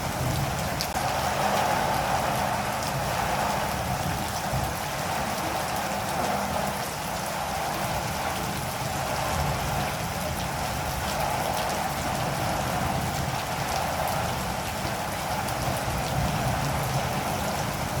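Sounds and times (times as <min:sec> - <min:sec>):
rain patter on a surface: 0:00.0 - 0:18.0.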